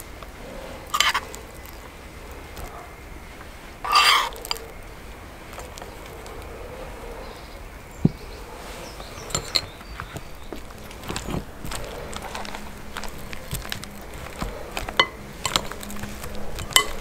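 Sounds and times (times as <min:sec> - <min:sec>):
spoon scraping wet sauce: 0:00.1 - 0:07.0, 0:08.2 - 0:17.0.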